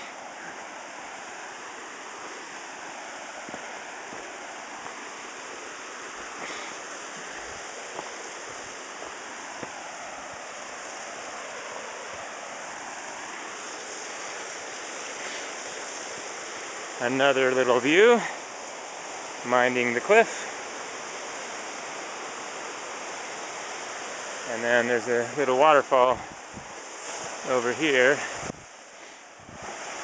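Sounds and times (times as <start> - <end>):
creek and waterfall rushing: 0.0 - 30.0.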